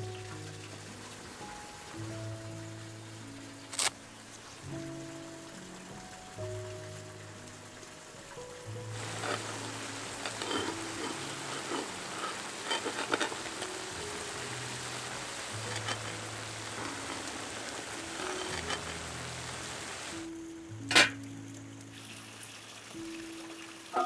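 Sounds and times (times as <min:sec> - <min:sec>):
soft background music: 0:00.0 - 0:24.0
vegetables sizzling in oil: 0:00.0 - 0:24.0.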